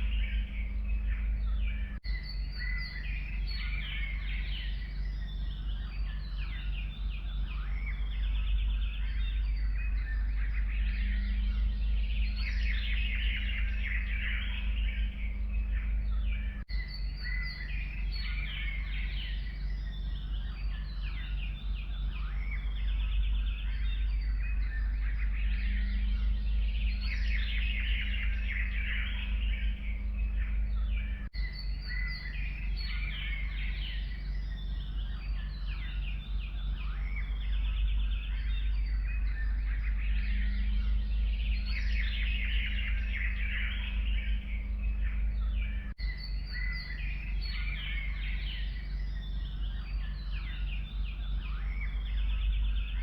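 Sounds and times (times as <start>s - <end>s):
low background rumble: 0.0s - 53.0s
songbirds chirping and trilling: 0.0s - 53.0s.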